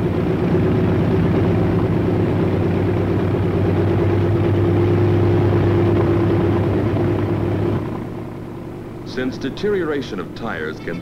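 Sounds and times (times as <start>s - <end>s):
aircraft piston engine droning: 0.0s - 11.0s.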